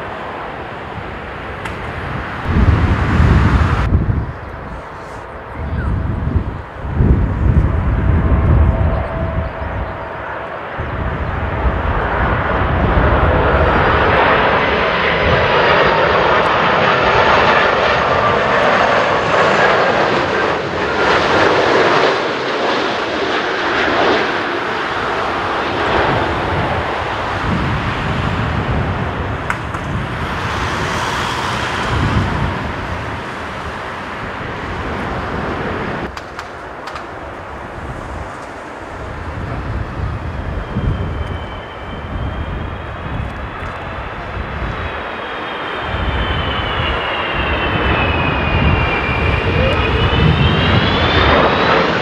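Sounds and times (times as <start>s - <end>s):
faint high jet whine: 0.0s - 52.0s
jet airliner roar: 0.0s - 52.0s.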